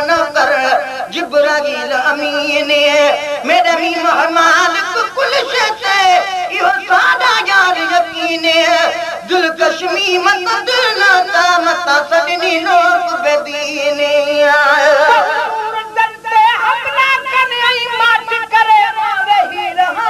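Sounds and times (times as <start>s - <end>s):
person singing devotional song: 0.0s - 20.0s.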